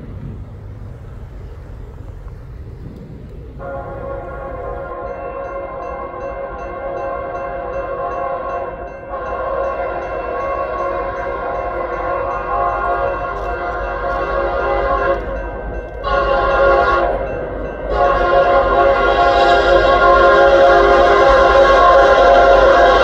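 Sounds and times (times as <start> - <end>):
locomotive air horn blasts: 3.6 - 15.4, 16.0 - 23.0.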